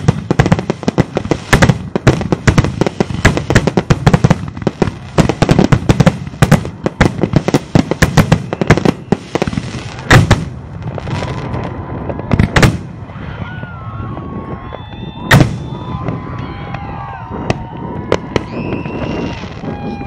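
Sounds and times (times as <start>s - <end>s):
heavy firework boom: 0.0s - 19.8s
fireworks crackling bangs: 0.0s - 20.0s.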